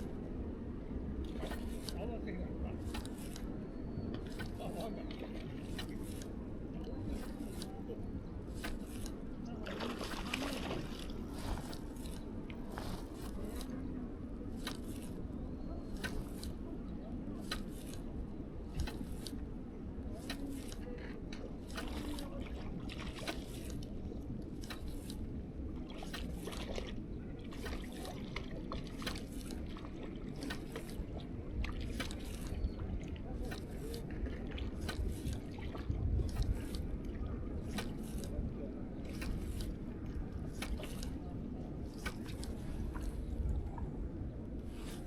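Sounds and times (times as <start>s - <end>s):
water splashing and trickling: 1.2s - 45.0s.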